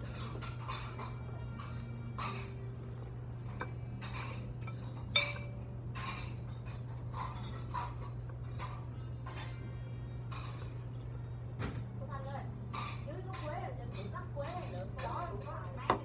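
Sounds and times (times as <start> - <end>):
cutlery and dishes clinking: 0.0 - 11.9, 12.7 - 16.0.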